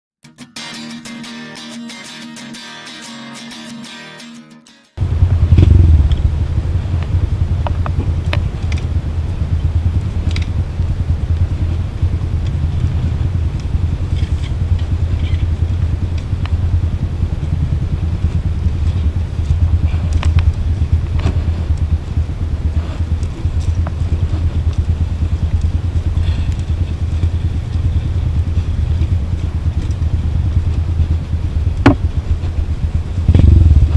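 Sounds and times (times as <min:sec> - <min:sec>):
low rumble of riding noise: 0:05.0 - 0:33.9
sharp clicks and rattles: 0:05.6 - 0:33.6.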